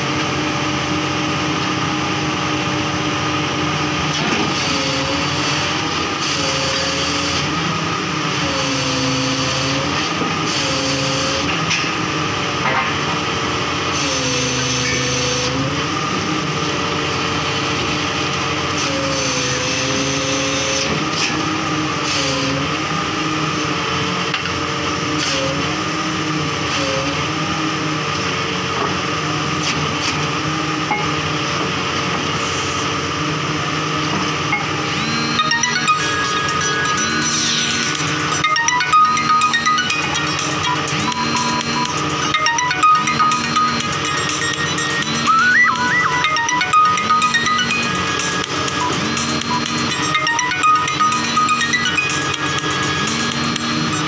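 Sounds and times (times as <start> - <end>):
drilling rig running: 0.0 - 54.0
engine drone: 0.0 - 54.0
machine whine: 0.0 - 54.0.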